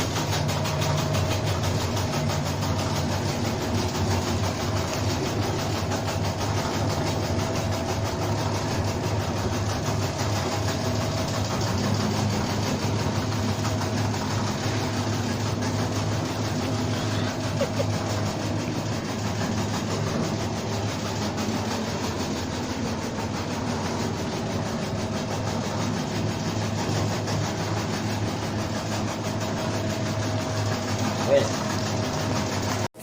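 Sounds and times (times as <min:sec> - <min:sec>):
shredding machine chattering: 0:00.0 - 0:33.0.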